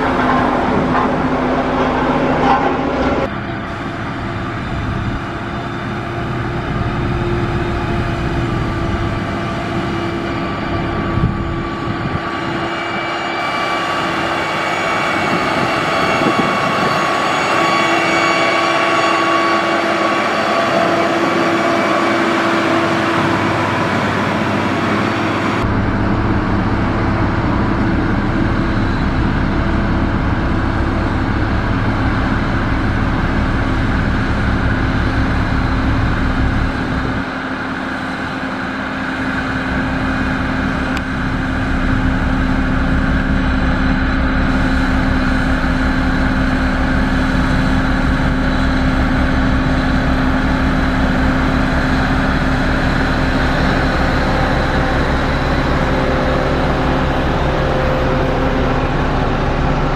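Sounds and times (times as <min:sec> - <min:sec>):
heavy diesel engine throbbing: 0:00.0 - 0:59.9.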